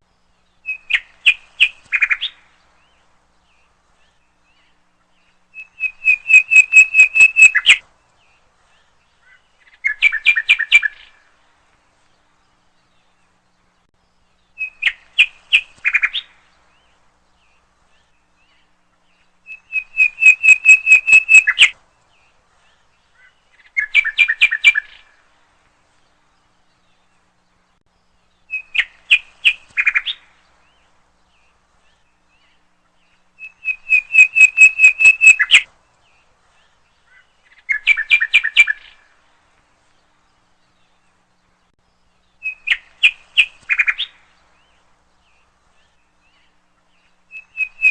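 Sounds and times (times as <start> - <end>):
songbird singing rapid notes: 0.1 - 11.3, 12.0 - 25.2, 26.0 - 47.9.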